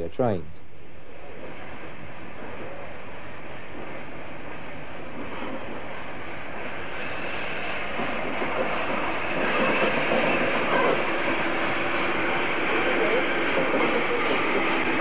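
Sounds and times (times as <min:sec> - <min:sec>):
steam locomotive and train running: 0:00.0 - 0:15.0.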